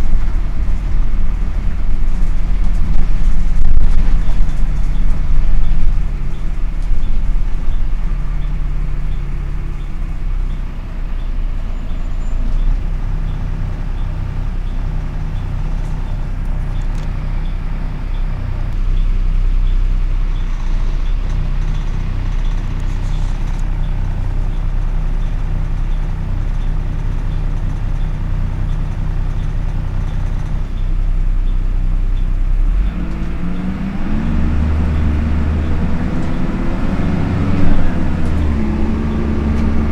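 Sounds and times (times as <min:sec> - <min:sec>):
radiator cooling fan rushing: 0:00.0 - 0:11.8, 0:12.6 - 0:39.9
bus engine idling: 0:00.0 - 0:39.9.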